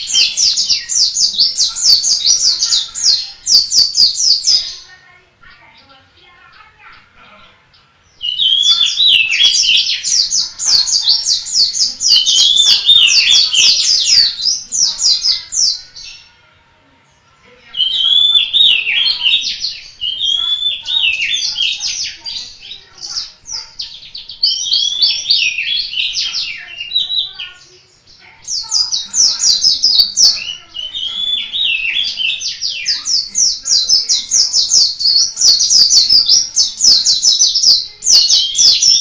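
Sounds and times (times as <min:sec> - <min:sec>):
bird twittering song: 0:00.0 - 0:07.1, 0:07.7 - 0:16.4, 0:17.7 - 0:39.0.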